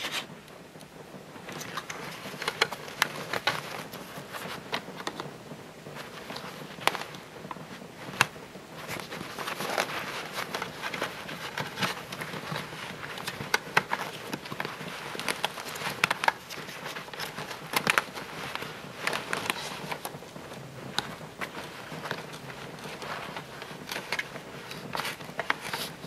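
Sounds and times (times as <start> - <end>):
rustling of dust bag: 1.3 - 26.0.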